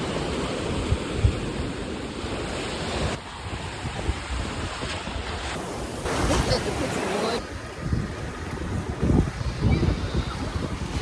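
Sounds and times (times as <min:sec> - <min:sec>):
ocean surf rushing: 0:00.0 - 0:11.0
wind buffeting microphone: 0:00.2 - 0:11.0.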